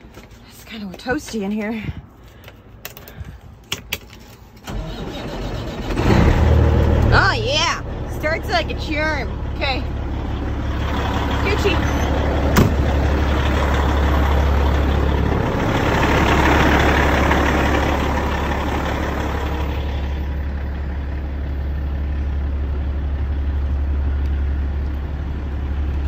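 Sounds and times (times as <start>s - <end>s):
diesel truck engine idling: 4.6s - 26.0s.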